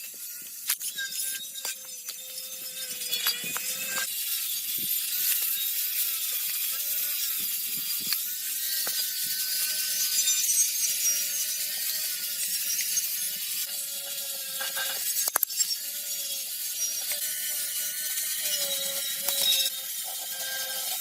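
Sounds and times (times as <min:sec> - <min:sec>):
tool ratcheting and rasping: 0:00.0 - 0:21.0.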